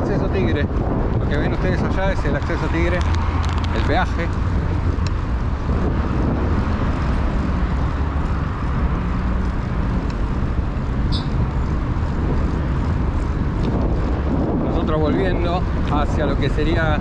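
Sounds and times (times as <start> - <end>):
motorway traffic noise: 0.0 - 17.0
mountain bike rumbling on road: 0.0 - 17.0.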